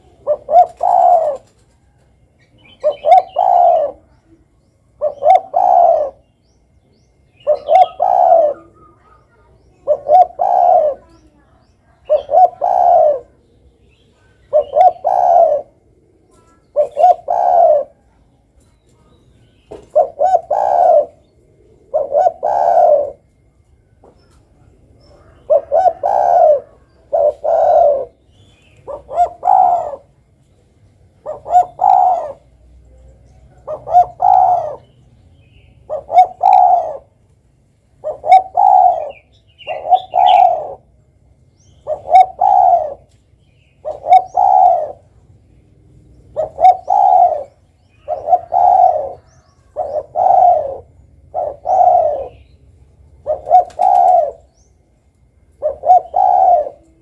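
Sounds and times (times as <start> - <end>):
dove cooing: 0.0 - 6.4, 7.2 - 19.1, 19.7 - 30.4, 31.0 - 37.3, 37.9 - 57.0.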